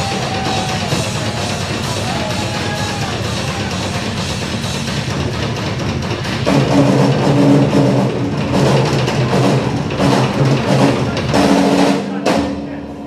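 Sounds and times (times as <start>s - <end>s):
drums: 0.0s - 13.0s
held low notes: 0.0s - 13.0s.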